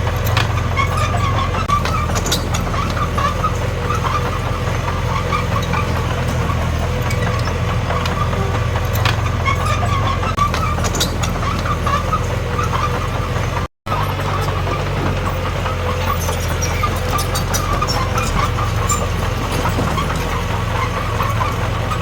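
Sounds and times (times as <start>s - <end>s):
bulldozer diesel engine running: 0.0s - 22.0s
squeaks and clicks: 0.0s - 22.0s.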